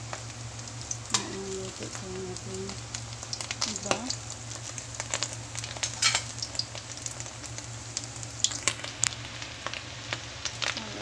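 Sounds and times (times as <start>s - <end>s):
low steady hum: 0.0s - 11.0s
oil sizzling and crackling: 0.0s - 11.0s.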